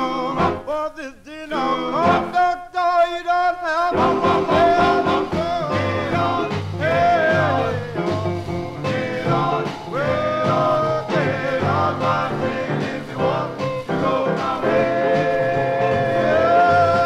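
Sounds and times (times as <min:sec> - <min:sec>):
band accompaniment with bass: 0:00.0 - 0:00.7, 0:02.0 - 0:02.3, 0:03.9 - 0:17.0
vocal group singing in harmony: 0:00.0 - 0:17.0.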